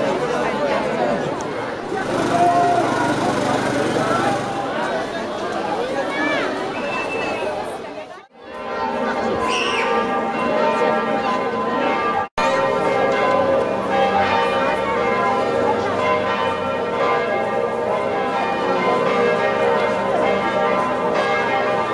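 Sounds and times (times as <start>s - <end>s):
church bells pealing: 0.0s - 5.2s, 8.4s - 21.9s.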